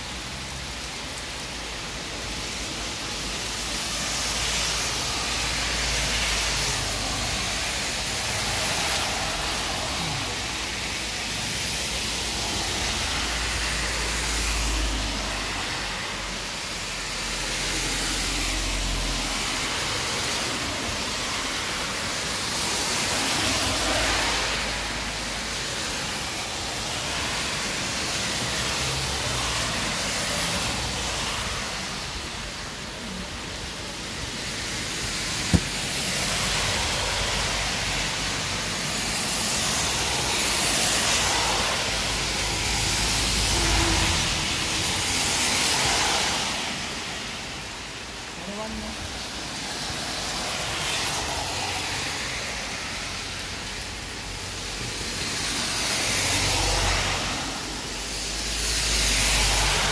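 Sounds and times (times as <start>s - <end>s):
car tyres hissing on wet road: 0.0s - 59.9s
heavy rain on wet road: 0.0s - 59.9s.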